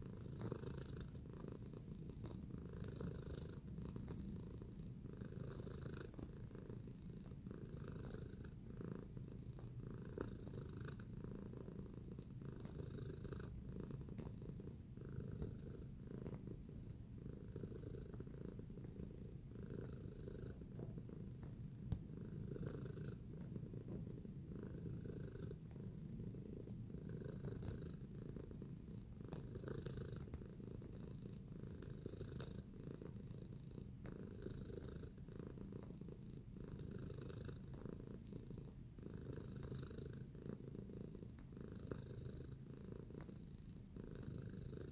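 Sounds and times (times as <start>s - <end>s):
cat purring: 0.0s - 44.9s.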